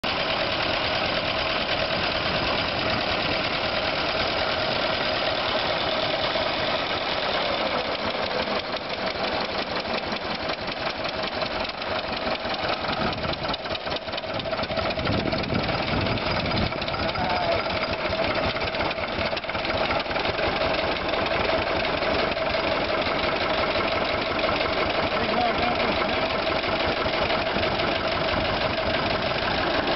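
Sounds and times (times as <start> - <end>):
car engine running rough: 0.0 - 29.9.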